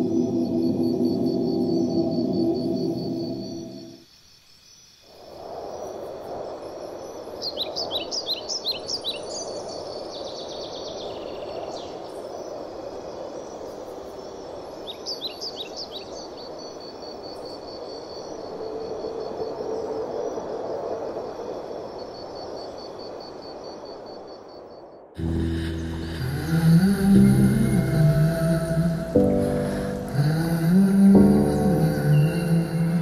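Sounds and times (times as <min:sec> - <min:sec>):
songbirds chirping: 0:05.7 - 0:24.4, 0:25.2 - 0:33.0.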